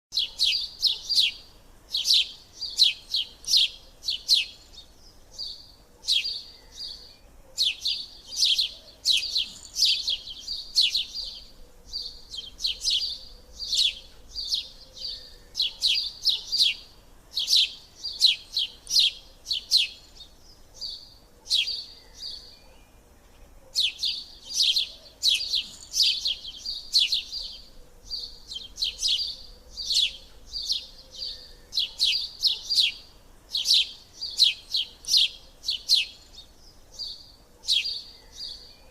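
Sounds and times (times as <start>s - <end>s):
birds chirping: 0.1s - 38.9s.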